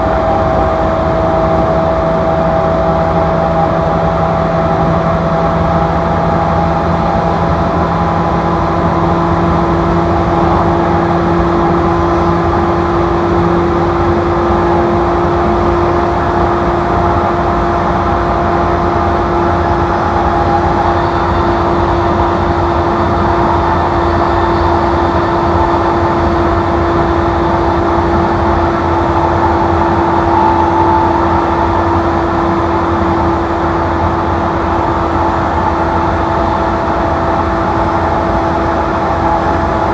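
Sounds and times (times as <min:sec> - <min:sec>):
drive equipment hum: 0:00.0 - 0:37.4
train running rumble: 0:00.0 - 0:39.9.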